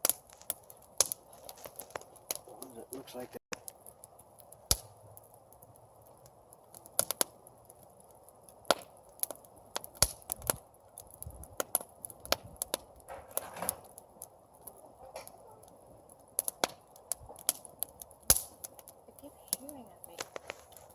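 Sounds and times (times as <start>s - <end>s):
campfire crackling and popping: 0.0s - 20.9s
hiss of flames: 0.0s - 20.9s.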